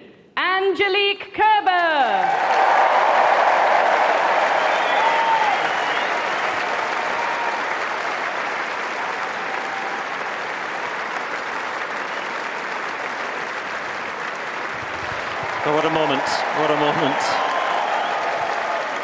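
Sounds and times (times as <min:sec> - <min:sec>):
stadium crowd applauding: 0:02.0 - 0:19.0.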